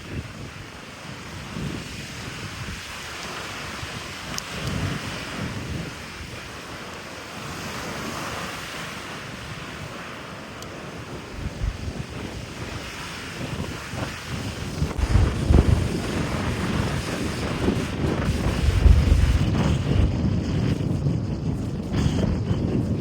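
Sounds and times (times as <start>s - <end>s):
strong wind: 0.0s - 23.0s
surf washing on shore: 0.0s - 23.0s
wind gusts buffeting microphone: 0.0s - 23.0s.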